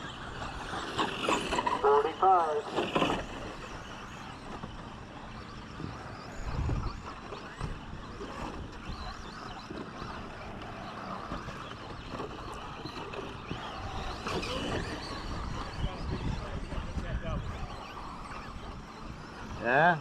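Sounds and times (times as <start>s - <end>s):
rc truck motors and tyres: 0.0s - 20.0s.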